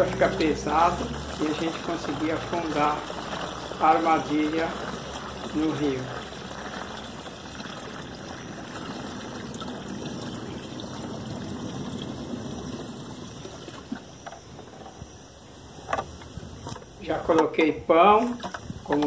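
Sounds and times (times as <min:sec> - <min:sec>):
water pouring into plastic jug: 0:00.0 - 0:15.4.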